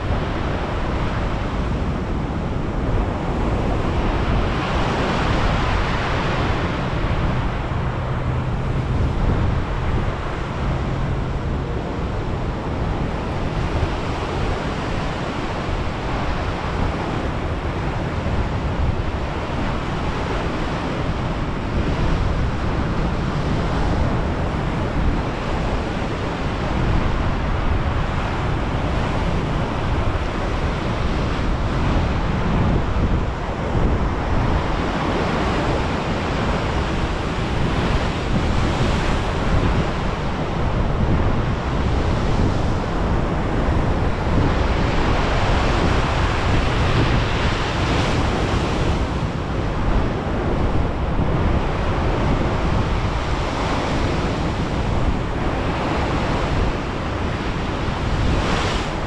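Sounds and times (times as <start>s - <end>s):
waves surging and breaking: 0.0s - 59.0s
wind buffeting microphone: 0.0s - 59.0s.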